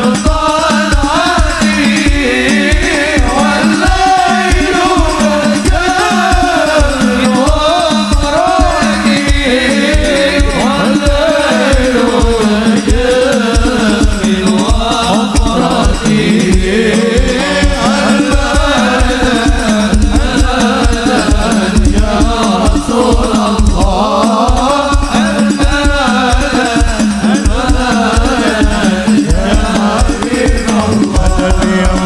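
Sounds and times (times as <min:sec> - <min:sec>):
devotional song sung melody: 0:00.0 - 0:32.0
fast hand-drum percussion: 0:00.0 - 0:32.0.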